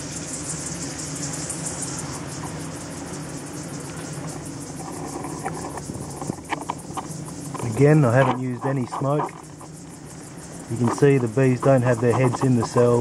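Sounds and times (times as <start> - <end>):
high-pitched insect trill: 0.0 - 13.0
honeybee colony humming: 0.0 - 13.0.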